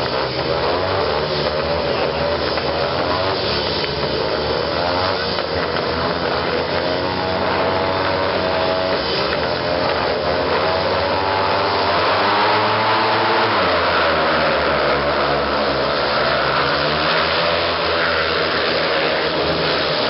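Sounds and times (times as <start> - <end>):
motorbike engines revving hard: 0.0 - 20.0.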